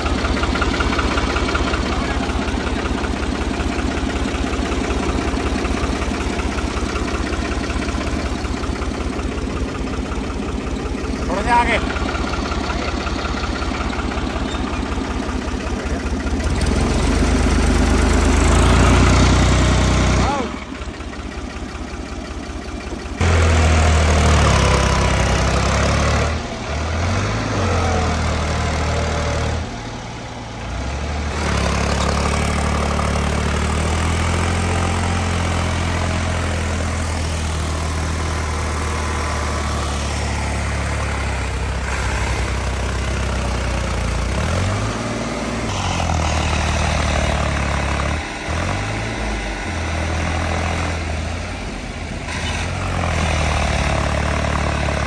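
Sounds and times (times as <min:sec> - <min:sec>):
diesel tractor engines under load: 0:00.0 - 0:55.0.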